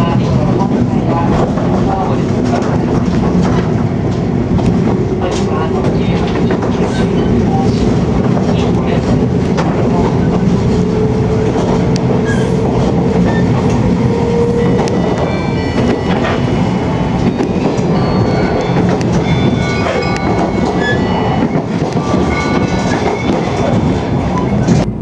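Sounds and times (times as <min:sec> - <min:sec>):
train wheels rumbling on rails: 0:00.0 - 0:25.0
rail clicks: 0:00.2 - 0:25.0.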